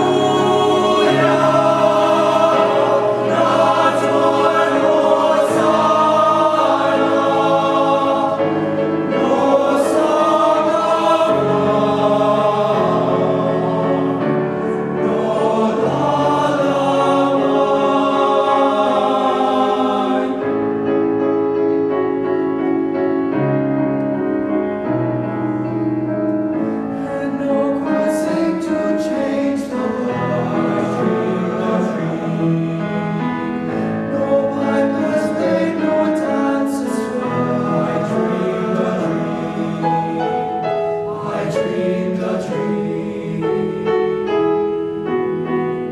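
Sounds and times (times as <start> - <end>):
boys' choir singing: 0.0 - 20.9, 27.0 - 45.9.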